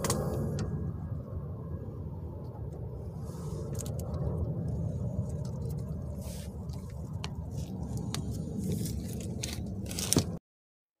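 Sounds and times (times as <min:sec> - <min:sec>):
low outdoor rumble: 0:00.0 - 0:10.4.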